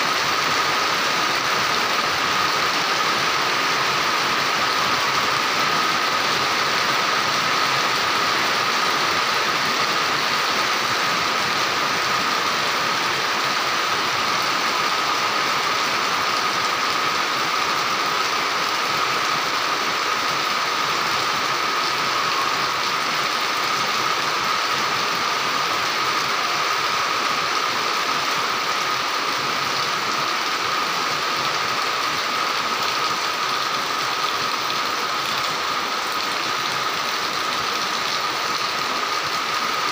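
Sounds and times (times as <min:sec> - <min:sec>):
heavy rain on pavement and roofs: 0:00.0 - 0:39.9
runoff pouring off roof: 0:00.0 - 0:39.9.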